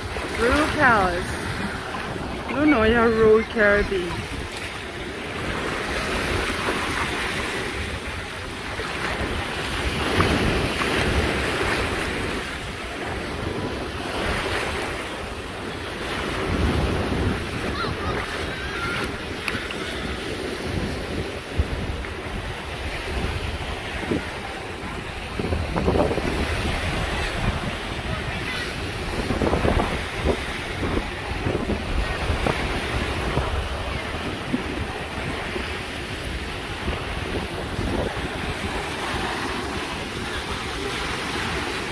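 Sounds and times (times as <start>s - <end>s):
small waves washing onto beach: 0.0s - 41.9s
wind buffeting microphone: 0.0s - 41.9s.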